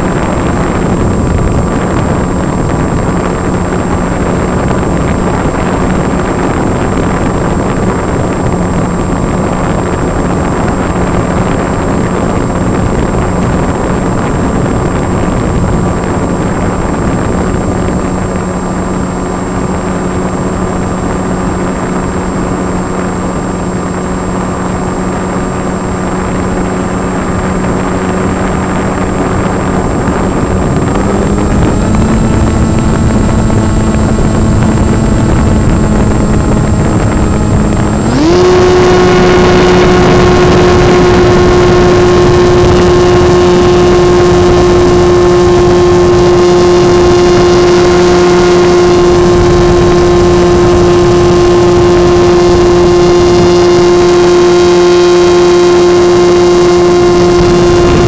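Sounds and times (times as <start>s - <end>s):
electric motor and propeller: 0.0s - 58.0s
wind rush: 0.0s - 58.0s.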